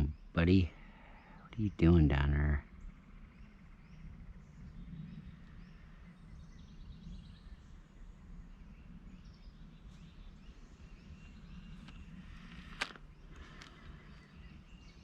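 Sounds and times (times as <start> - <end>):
faint bird chirps: 0.0 - 15.0
low steady rumble: 0.0 - 15.0.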